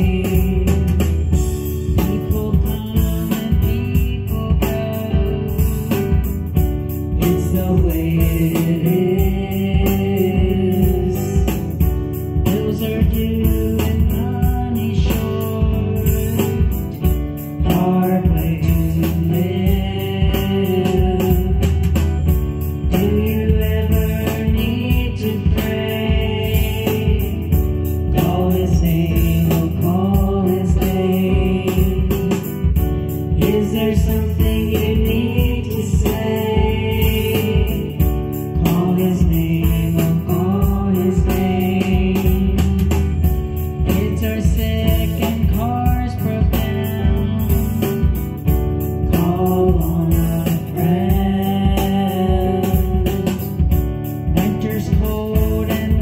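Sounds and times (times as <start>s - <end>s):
christian song with beat: 0.0s - 56.0s.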